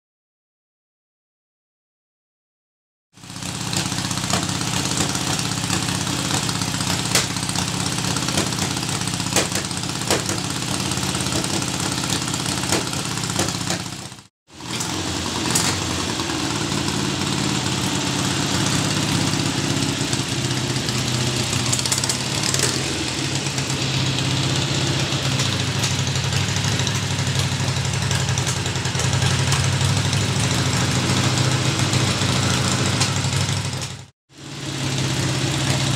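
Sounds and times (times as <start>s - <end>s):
motorcycle engine idling: 3.2s - 35.9s.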